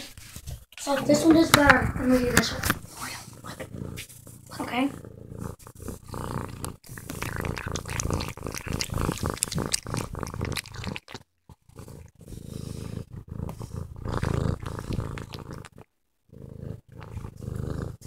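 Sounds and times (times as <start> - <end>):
cat purring: 0.9 - 18.0.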